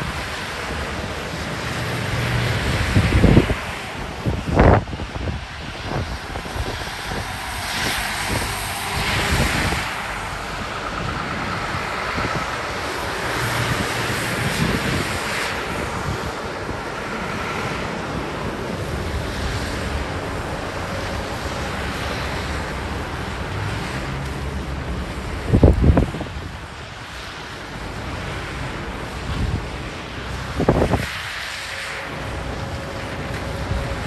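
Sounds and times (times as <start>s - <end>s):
low buffeting rumbles: 0.0s - 27.0s, 32.0s - 34.0s
storm wind gusting on microphone: 0.0s - 34.0s.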